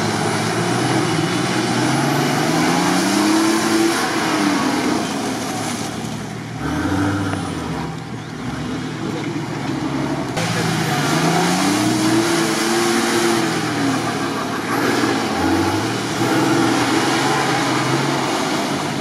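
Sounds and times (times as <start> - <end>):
engine revving hard: 0.0 - 5.6, 6.6 - 19.0.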